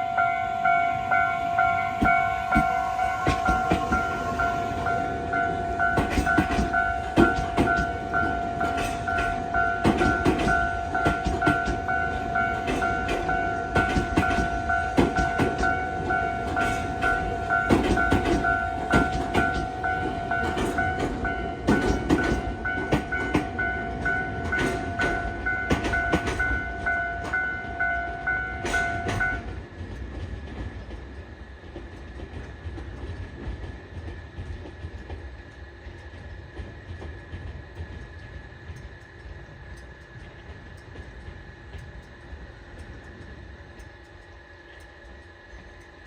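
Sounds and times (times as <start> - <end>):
train wheels clicking over joints: 1.9 - 46.0.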